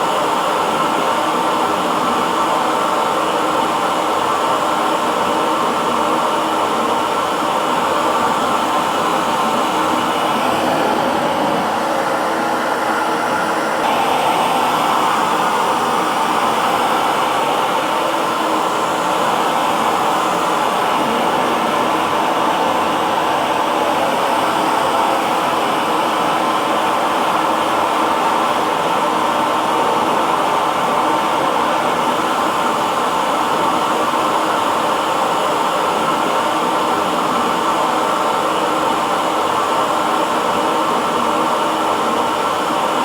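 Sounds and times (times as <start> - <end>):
hair dryer running: 0.0 - 43.0.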